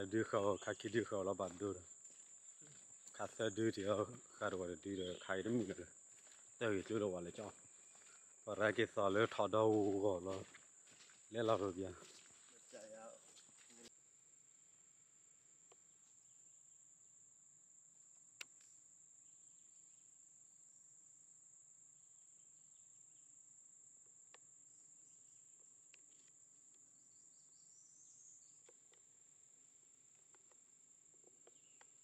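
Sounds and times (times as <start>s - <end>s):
high-pitched insect chorus: 0.0s - 13.9s, 15.8s - 32.0s.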